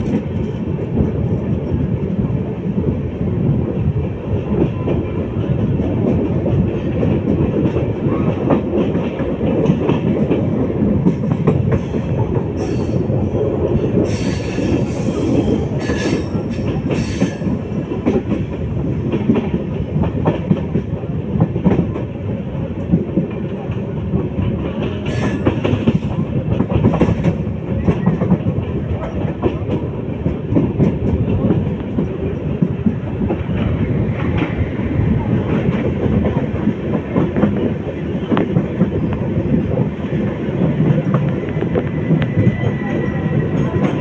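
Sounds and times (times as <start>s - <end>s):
oncoming train passing: 0.0s - 44.0s.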